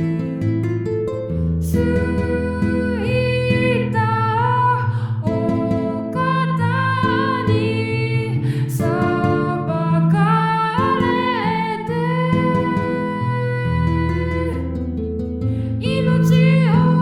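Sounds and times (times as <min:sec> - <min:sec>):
plucked strings: 0:00.0 - 0:17.0.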